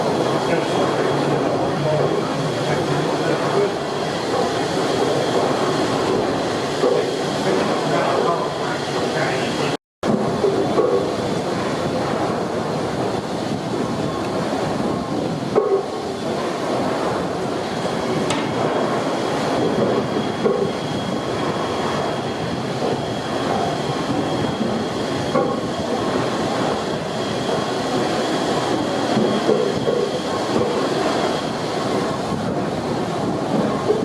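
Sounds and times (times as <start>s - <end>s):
steam engine clatter and rumble: 0.0s - 34.0s.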